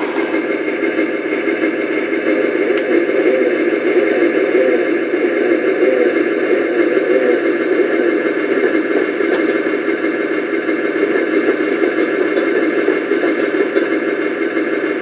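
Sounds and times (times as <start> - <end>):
tank engine idling rumble: 0.0 - 15.0.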